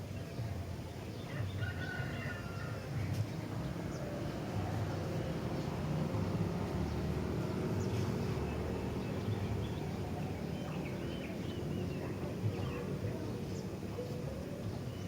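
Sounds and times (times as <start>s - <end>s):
low engine rumble: 2.8s - 15.0s.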